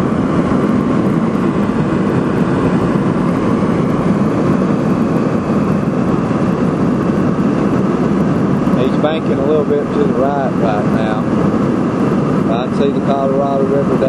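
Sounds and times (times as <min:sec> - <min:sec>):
airliner cabin engine noise: 0:00.0 - 0:14.0.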